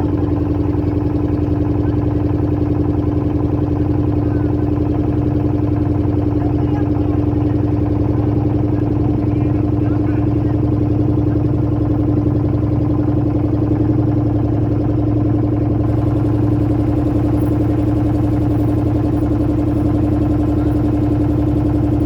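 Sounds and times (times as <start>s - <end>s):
motorboat engine droning: 0.0s - 22.0s.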